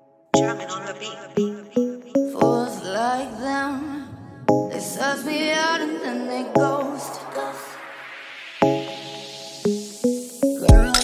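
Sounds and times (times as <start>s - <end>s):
song with gliding melodic line: 0.4s - 11.0s.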